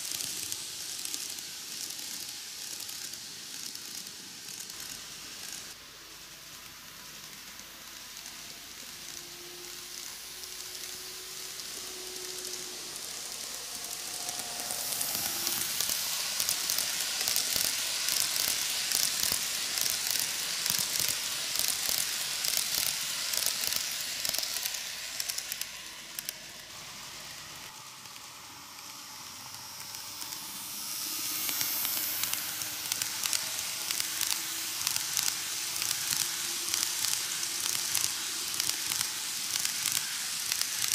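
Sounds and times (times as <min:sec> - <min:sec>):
model train wheels hissing and clicking: 0:00.0 - 0:40.9.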